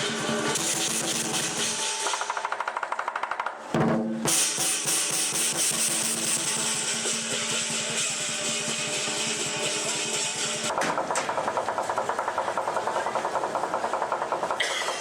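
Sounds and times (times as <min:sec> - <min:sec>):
cymbals clashing: 0:00.0 - 0:02.8, 0:04.3 - 0:15.0
drum fast roll: 0:00.0 - 0:15.0.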